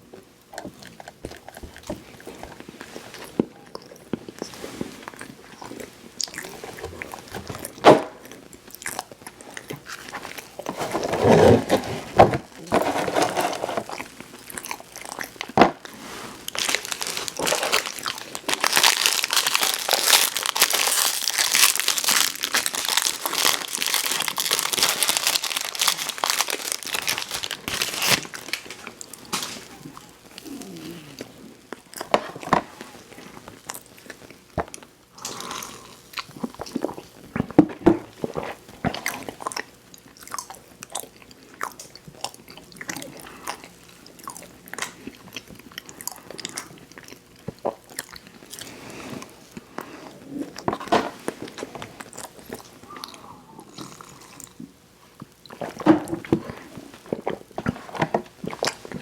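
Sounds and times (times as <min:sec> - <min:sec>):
crinkling and crunching: 0:00.1 - 0:34.9, 0:36.0 - 0:59.0.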